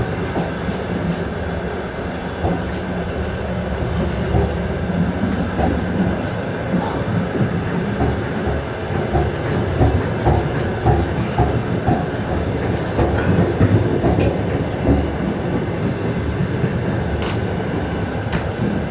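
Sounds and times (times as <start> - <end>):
train rumbling at speed: 0.0 - 18.9.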